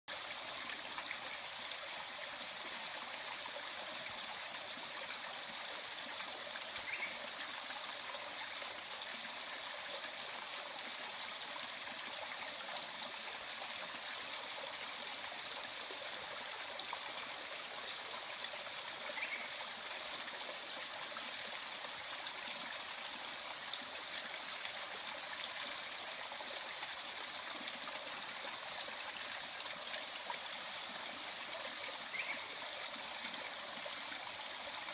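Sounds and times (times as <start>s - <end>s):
stream flowing over rocks: 0.1s - 34.9s.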